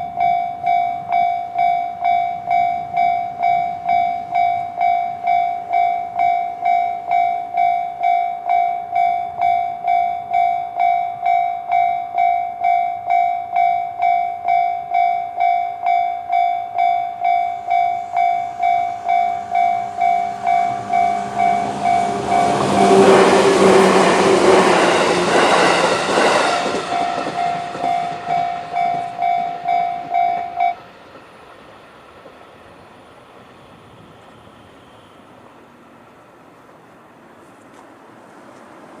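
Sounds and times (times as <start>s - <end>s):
railway crossing bell dinging: 0.0s - 33.3s
electric train passing: 0.0s - 39.0s.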